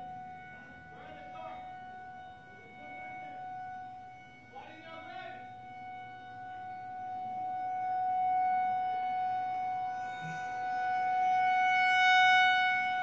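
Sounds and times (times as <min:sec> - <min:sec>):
siren steady tone: 0:00.0 - 0:13.0.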